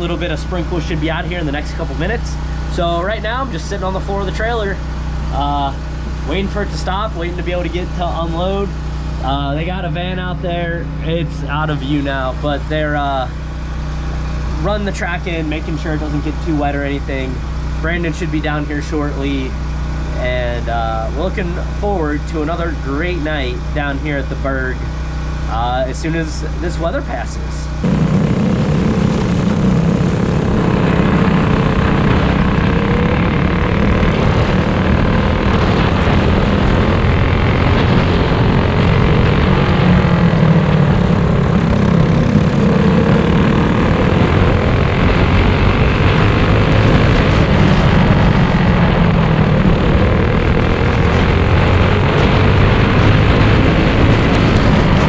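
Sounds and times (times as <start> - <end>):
small engines droning: 0.0 - 55.0.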